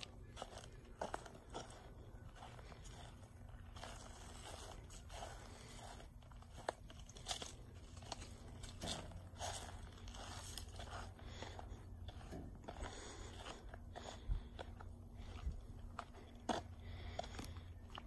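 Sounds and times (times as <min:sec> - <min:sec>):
footsteps crunching: 0:00.0 - 0:18.0
steady low rumble: 0:00.0 - 0:18.0.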